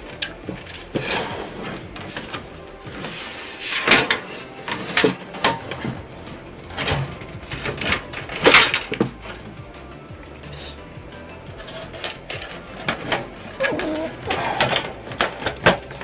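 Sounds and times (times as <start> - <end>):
computer case parts clunking: 0.0 - 9.8, 11.5 - 16.0.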